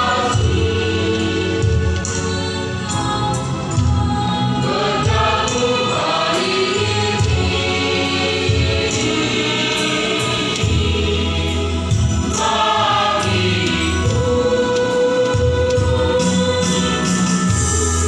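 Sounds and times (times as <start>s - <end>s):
gospel choir singing: 0.0s - 18.0s
instrumental backing with bass: 0.0s - 18.0s.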